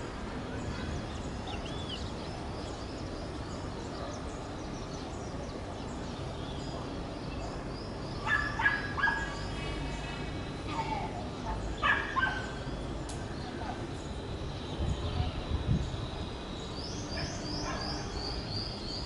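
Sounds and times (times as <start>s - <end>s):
low background noise: 0.0s - 19.0s
small birds chirping: 0.3s - 19.0s.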